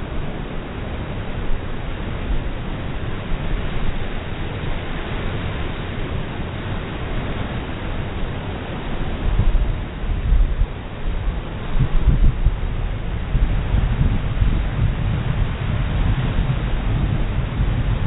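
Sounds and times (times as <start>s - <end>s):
surf rushing ashore: 0.0s - 18.0s
wind buffeting microphone: 0.0s - 18.0s.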